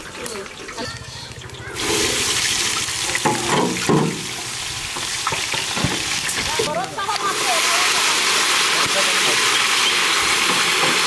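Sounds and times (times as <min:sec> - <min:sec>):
onions sizzling in hot oil: 0:00.8 - 0:11.0.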